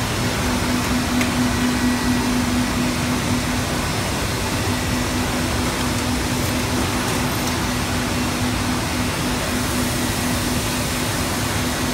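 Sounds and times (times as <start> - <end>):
pulsing machine hum: 0.0 - 11.9.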